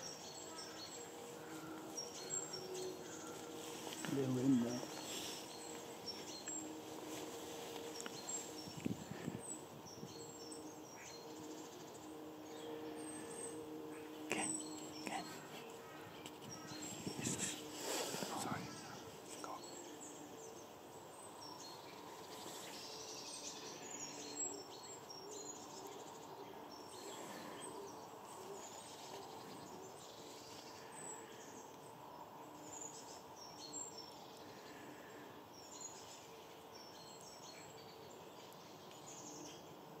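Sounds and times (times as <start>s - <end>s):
small birds calling: 0.0s - 40.0s.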